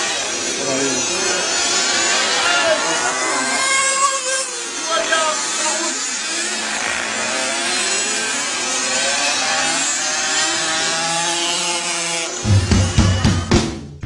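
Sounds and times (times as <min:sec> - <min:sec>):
model motorcycle motors whining: 0:00.0 - 0:13.5.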